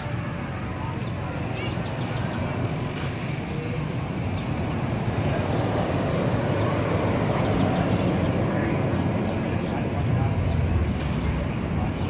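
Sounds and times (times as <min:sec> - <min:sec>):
amusement park background rumble: 0:00.0 - 0:12.0.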